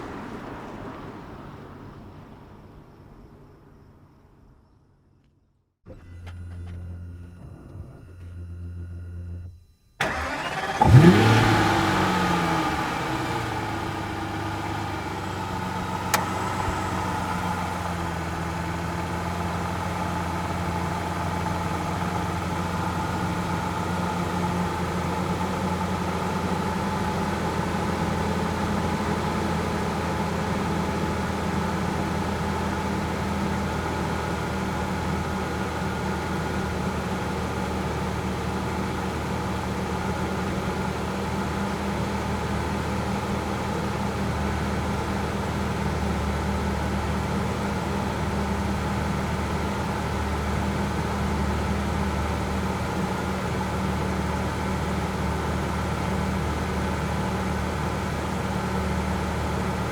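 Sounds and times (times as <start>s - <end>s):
car engine idling: 0.0s - 5.0s, 5.9s - 59.9s
car engine starting and revving: 5.9s - 59.9s
faint engine hum: 5.9s - 59.9s.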